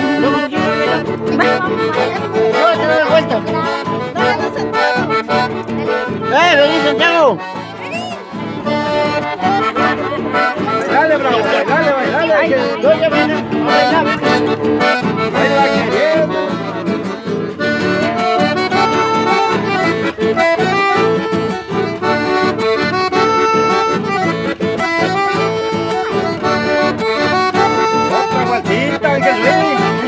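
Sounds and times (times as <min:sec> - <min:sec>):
accordion folk music: 0:00.0 - 0:30.0.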